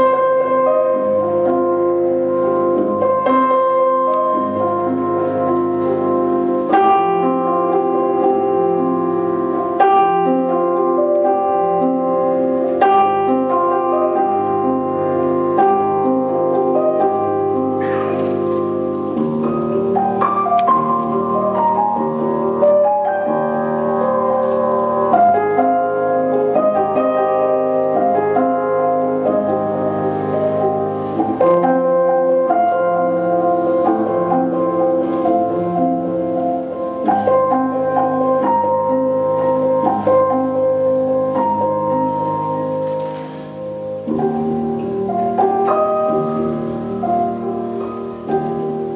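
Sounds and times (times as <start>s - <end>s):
piano music: 0.0s - 48.9s.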